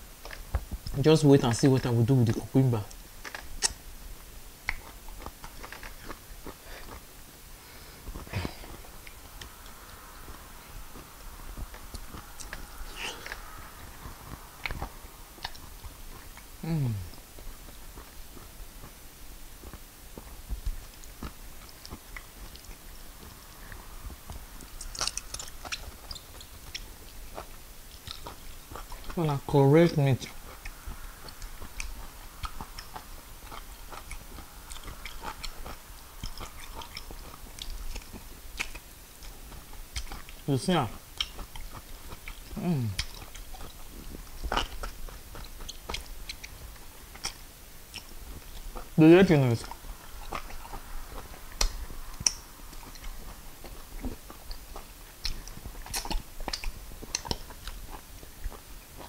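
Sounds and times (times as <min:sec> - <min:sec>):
fingers squishing food: 0:01.7 - 0:03.8, 0:08.1 - 0:59.0
person chewing wetly: 0:01.8 - 0:59.0.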